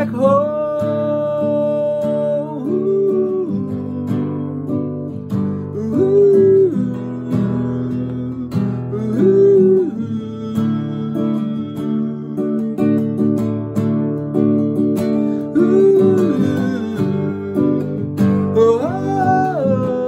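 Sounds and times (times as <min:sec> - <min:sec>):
man singing wordless notes: 0:00.0 - 0:13.2, 0:15.2 - 0:20.0
classical guitar strumming: 0:00.0 - 0:20.0.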